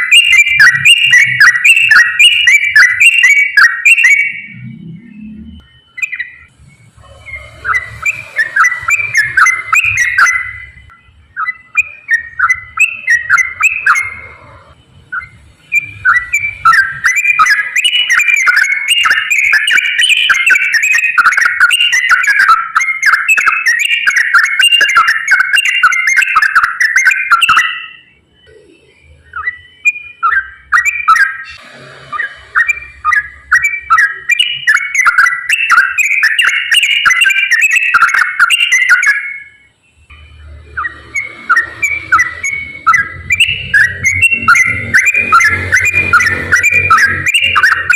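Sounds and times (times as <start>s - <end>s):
bird singing bubbly whistled notes: 0.0s - 47.9s.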